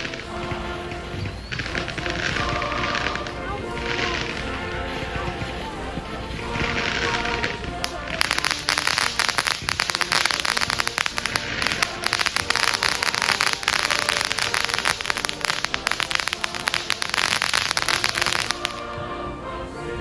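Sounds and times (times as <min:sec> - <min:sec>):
background music: 0:00.0 - 0:20.0
fireworks crackling: 0:00.0 - 0:20.0.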